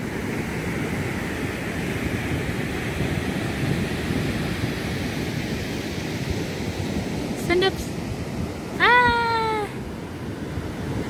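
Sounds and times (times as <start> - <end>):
surf breaking on shore: 0.0 - 11.0
wind buffeting microphone: 0.0 - 11.0.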